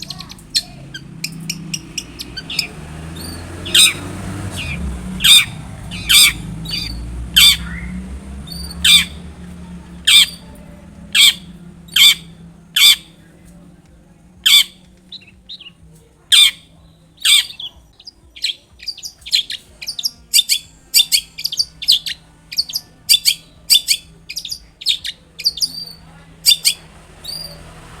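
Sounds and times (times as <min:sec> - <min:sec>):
bird harsh screeches: 0:00.0 - 0:09.2, 0:10.0 - 0:13.2, 0:14.4 - 0:17.8, 0:18.4 - 0:27.7
bird high chattering notes: 0:00.0 - 0:13.6, 0:14.3 - 0:27.7.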